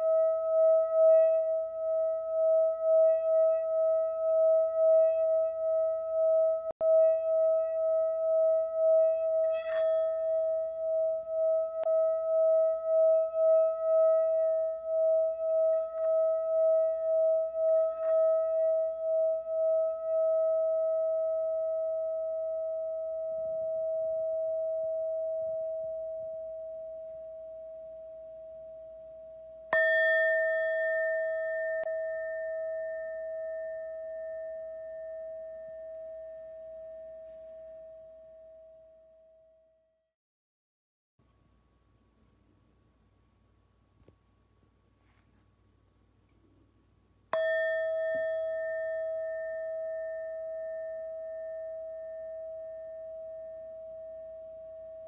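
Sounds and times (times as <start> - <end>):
singing bowl ringing: 0.0 - 39.5, 47.3 - 55.0.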